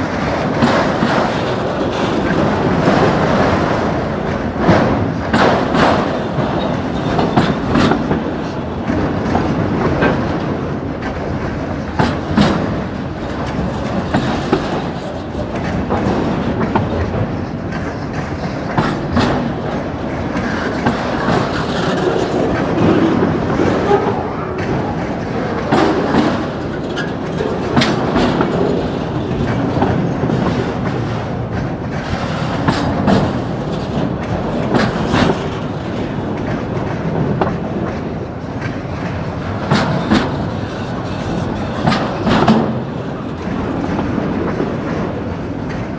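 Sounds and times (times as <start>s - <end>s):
steel wheels rumbling on rail: 0.0s - 45.9s
wheels clacking over rail joints: 0.0s - 45.9s.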